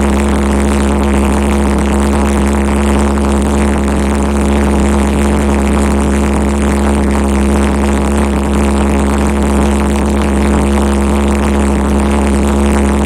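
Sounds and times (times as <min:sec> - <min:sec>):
pulse jet engine droning: 0:00.0 - 0:13.0.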